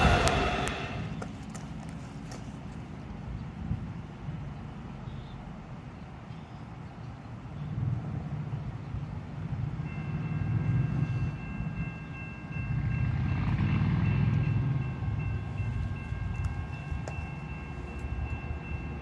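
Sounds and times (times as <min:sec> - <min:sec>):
train rumble: 0:00.0 - 0:05.0, 0:07.1 - 0:19.0.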